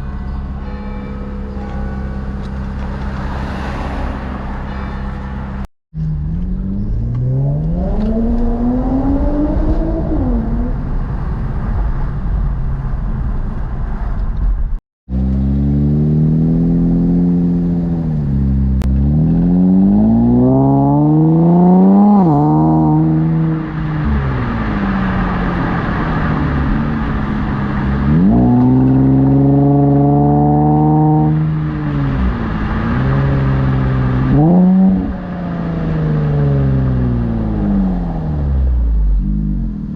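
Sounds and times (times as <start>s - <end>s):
car engine accelerating: 1.4s - 39.9s.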